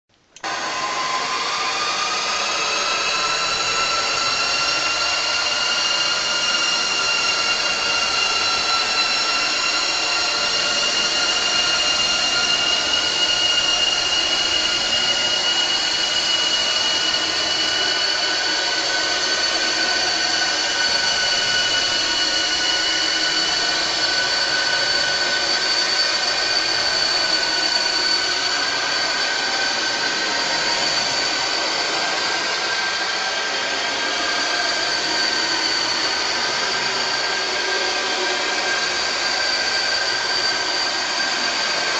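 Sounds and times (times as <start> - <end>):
shrill screeching drone: 0.4 - 41.9.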